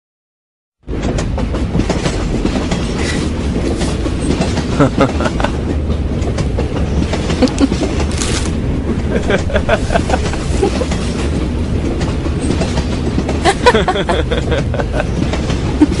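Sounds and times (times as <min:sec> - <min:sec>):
subway train rumble: 0:00.8 - 0:16.0
wheels clicking over rails: 0:00.9 - 0:16.0.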